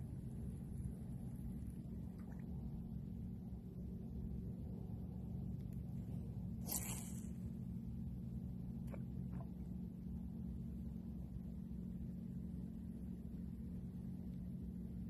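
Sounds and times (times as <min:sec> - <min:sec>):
faint hum: 0:00.0 - 0:15.0
steady low rumble: 0:00.0 - 0:15.0.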